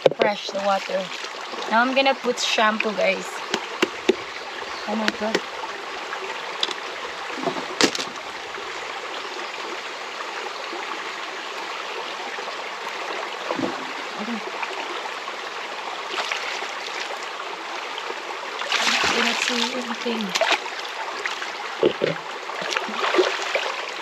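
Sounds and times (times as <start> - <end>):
river water running: 0.0 - 24.0.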